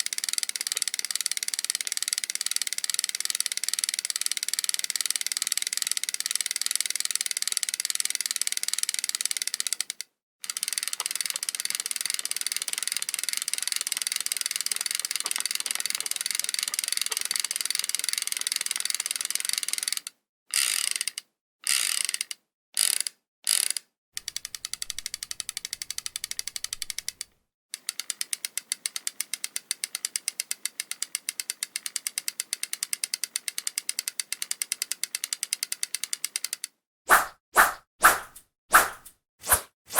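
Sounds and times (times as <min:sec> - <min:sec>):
fishing reel ratcheting: 0:00.0 - 0:27.2, 0:27.8 - 0:36.6.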